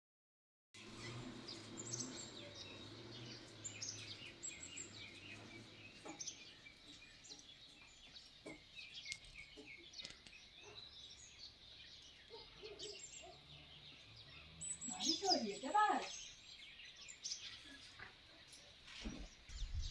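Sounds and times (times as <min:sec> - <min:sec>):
small birds chirping: 0:00.8 - 0:19.9.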